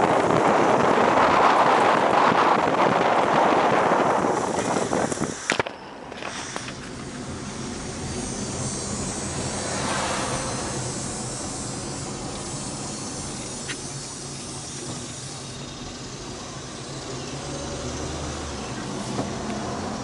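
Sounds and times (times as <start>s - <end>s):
car engine humming: 0.0s - 20.0s
road and tyre noise: 0.0s - 20.0s.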